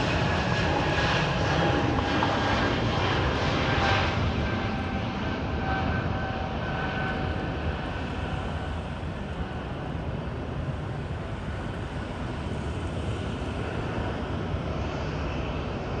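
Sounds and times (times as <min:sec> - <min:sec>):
jet engines rumbling at takeoff: 0:00.0 - 0:16.0.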